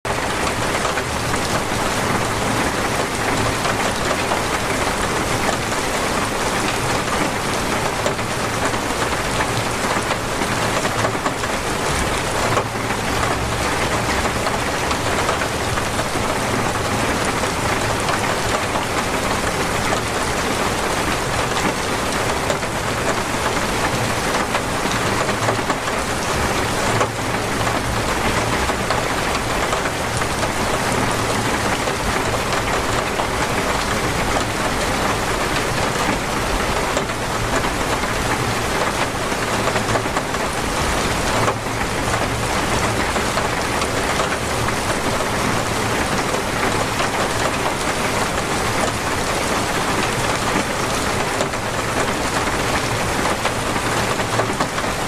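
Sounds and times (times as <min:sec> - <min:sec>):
torrential rain: 0:00.0 - 0:55.0.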